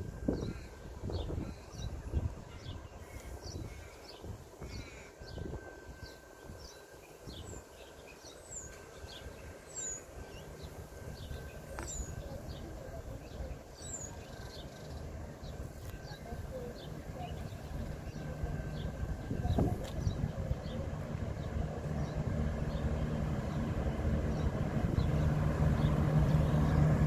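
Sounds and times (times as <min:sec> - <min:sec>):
diesel railcar rumble: 0:00.0 - 0:27.0
small birds chirping: 0:00.3 - 0:27.0.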